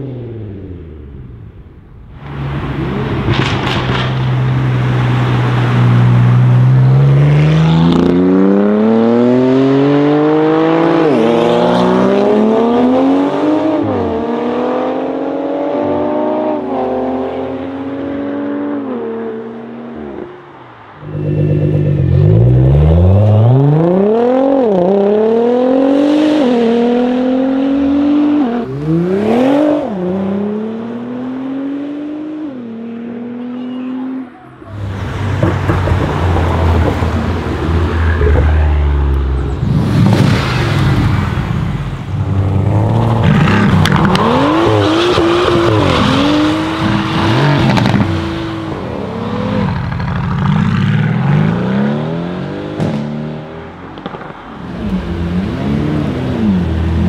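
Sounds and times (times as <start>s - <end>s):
car engines accelerating hard: 2.2s - 57.0s.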